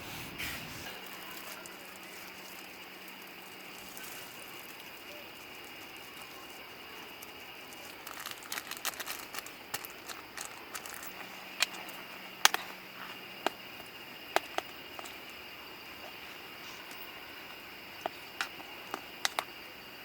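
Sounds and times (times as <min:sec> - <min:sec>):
crinkling and clicking objects: 0:00.4 - 0:20.0.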